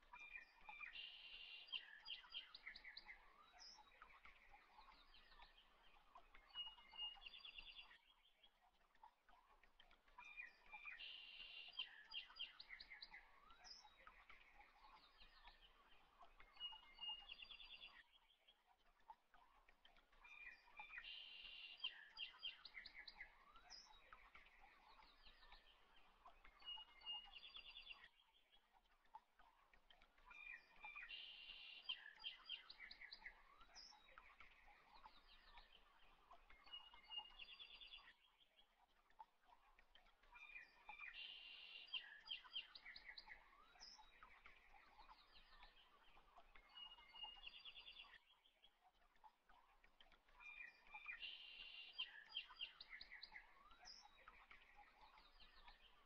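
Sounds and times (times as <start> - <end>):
faint birdsong chirps and trills: 0.0 - 56.0.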